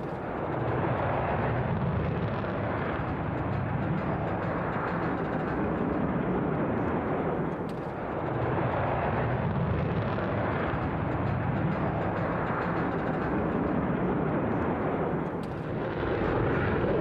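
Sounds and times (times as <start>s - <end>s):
fighter jet engine rush: 0.0s - 17.0s.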